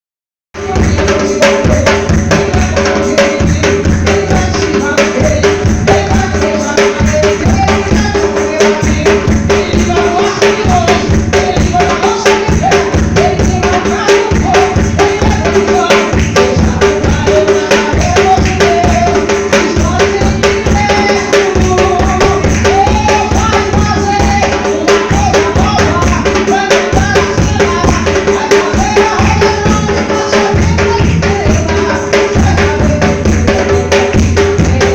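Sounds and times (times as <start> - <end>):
drums beating busy rhythm: 0.5 - 34.9.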